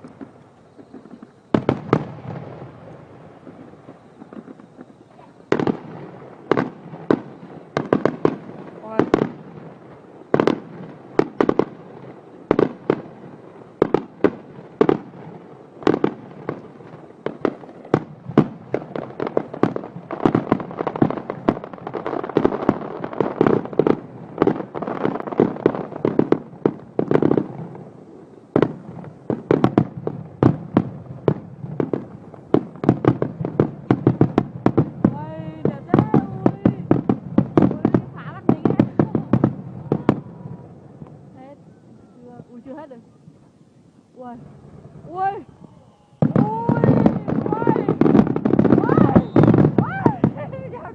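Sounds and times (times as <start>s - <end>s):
fireworks bangs and pops: 0.0s - 41.6s, 46.1s - 50.9s
fireworks crackle: 0.0s - 50.9s.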